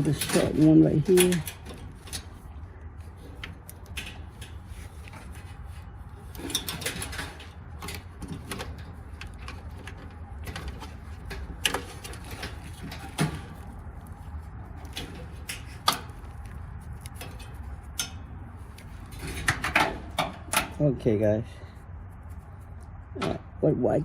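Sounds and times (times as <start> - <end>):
wire connectors clicking: 0.0 - 20.8.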